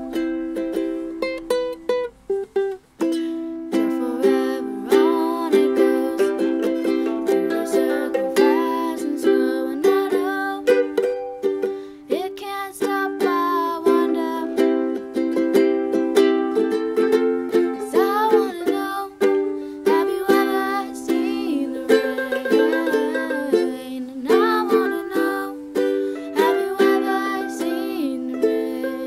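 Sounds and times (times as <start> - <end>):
ukulele strumming: 0.0 - 29.0
young person singing: 0.0 - 29.0.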